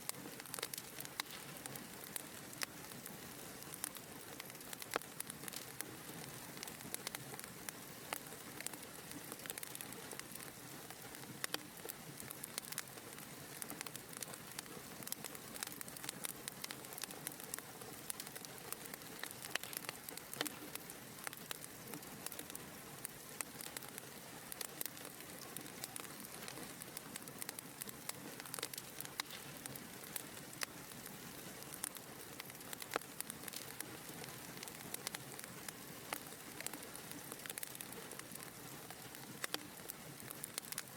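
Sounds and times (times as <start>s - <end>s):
fire pops and snaps: 0.0s - 40.9s
wood fire crackling: 0.0s - 40.9s.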